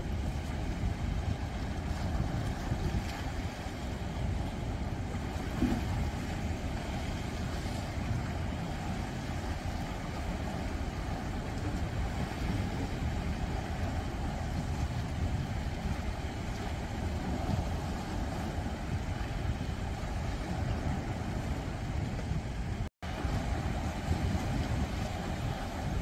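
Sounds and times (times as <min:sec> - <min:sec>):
sea waves on rocks: 0:00.0 - 0:26.0.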